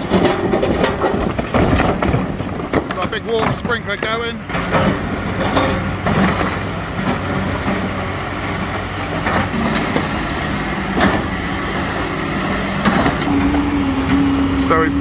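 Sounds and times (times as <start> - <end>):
masonry knocking and clattering: 0.0 - 13.3
excavator diesel engine running: 0.0 - 15.0.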